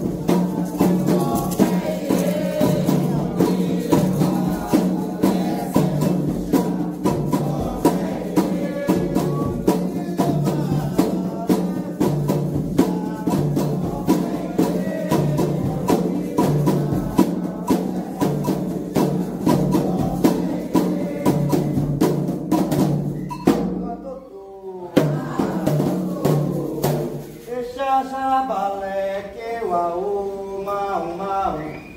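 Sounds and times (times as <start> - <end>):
group chanting: 0.0 - 22.4, 24.0 - 31.9
hand drums playing fast: 0.0 - 24.0, 25.0 - 27.5.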